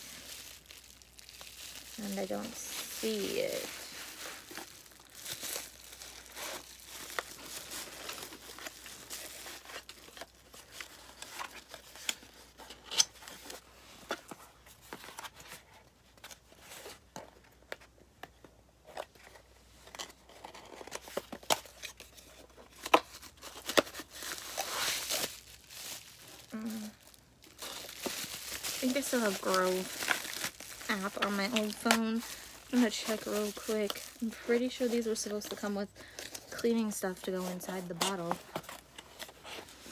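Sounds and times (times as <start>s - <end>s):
paper and cardboard crinkling: 0.0s - 39.9s.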